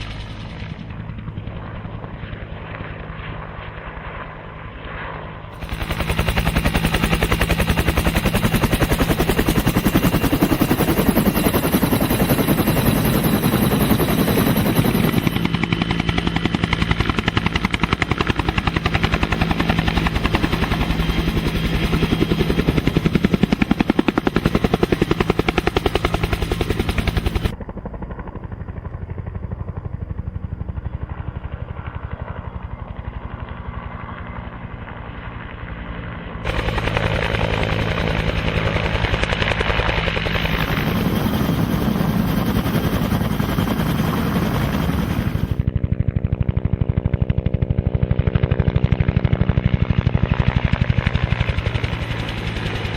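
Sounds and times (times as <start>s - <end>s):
helicopter engine hum: 0.0s - 52.9s
helicopter rotor beating: 0.0s - 52.9s.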